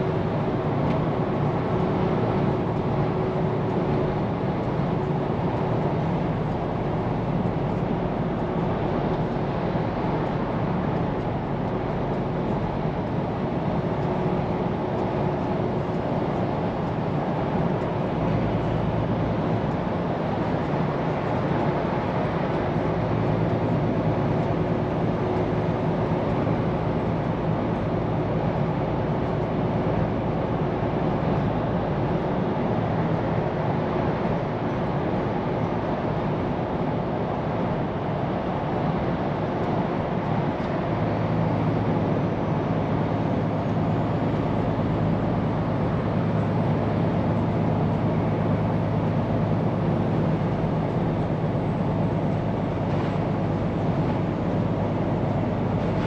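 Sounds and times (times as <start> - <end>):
tyre and road noise: 0.0 - 56.0.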